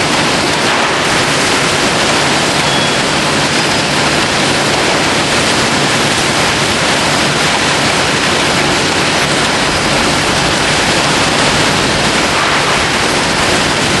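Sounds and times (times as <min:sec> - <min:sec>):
machinery and conveyors roaring: 0:00.0 - 0:14.0.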